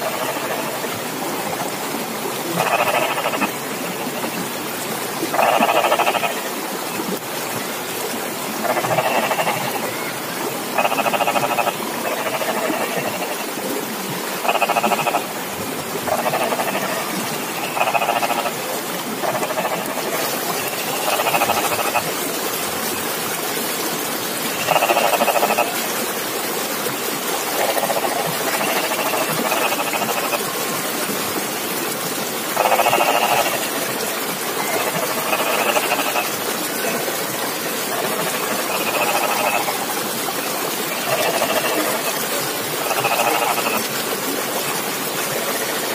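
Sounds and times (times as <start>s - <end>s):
frogs croaking: 0.0s - 30.8s, 32.2s - 45.9s.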